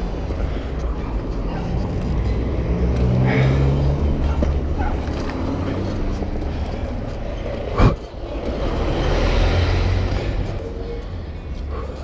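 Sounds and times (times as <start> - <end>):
road traffic passing: 0.0 - 12.0
car engine passing: 0.5 - 11.9.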